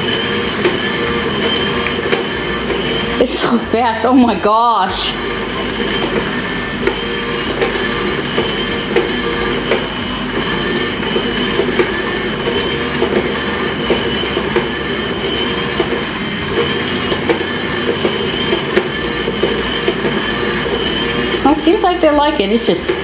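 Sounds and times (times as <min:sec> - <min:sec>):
high electronic chirps: 0:00.0 - 0:23.0
toy motor whirring: 0:00.0 - 0:23.0.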